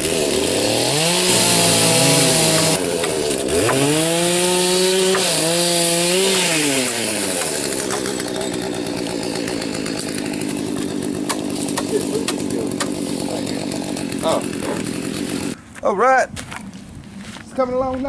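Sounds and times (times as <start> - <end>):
chainsaw revving: 0.0 - 15.6.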